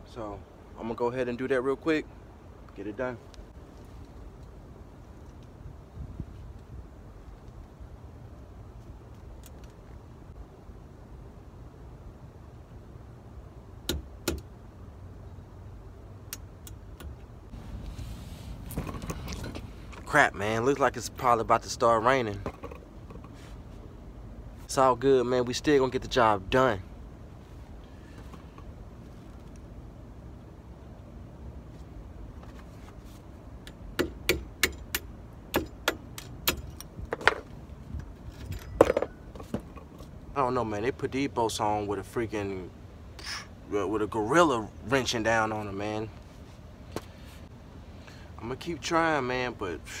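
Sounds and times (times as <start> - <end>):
low steady rumble: 0.0 - 50.0.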